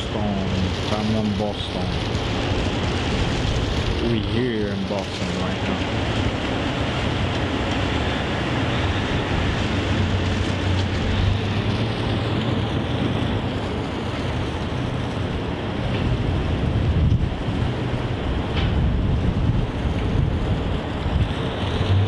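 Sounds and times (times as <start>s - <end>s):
boat engine drone: 0.0s - 22.0s
rush of wind and water: 0.0s - 22.0s.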